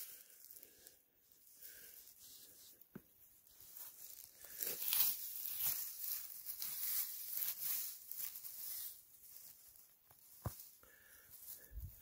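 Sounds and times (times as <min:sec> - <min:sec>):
dry pine needles rustling: 0:00.0 - 0:12.0.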